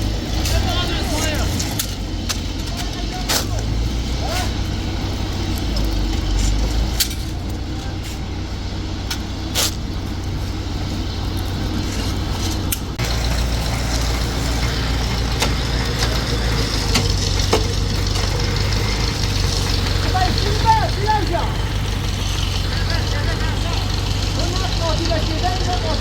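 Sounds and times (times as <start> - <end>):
construction machine engine running: 0.0 - 26.0.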